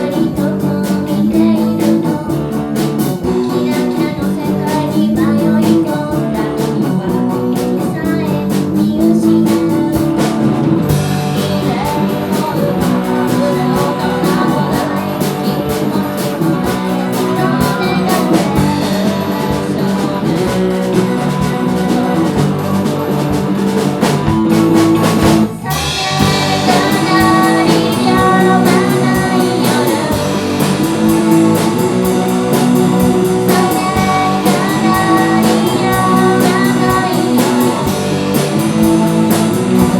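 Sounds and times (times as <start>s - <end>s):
drums: 0.0s - 39.9s
guitar: 0.0s - 39.9s
person singing: 0.0s - 39.9s.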